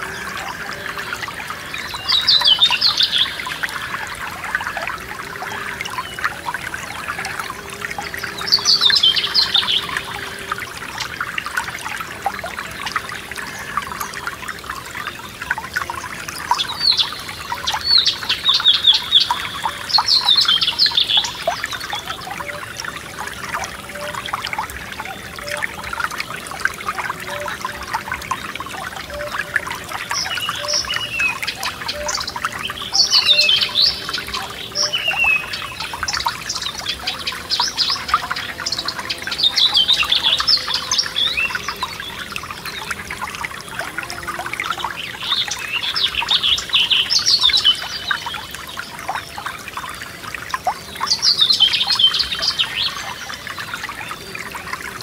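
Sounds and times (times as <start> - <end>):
songbirds singing: 0.0 - 55.0
stream trickling and bubbling: 0.0 - 55.0.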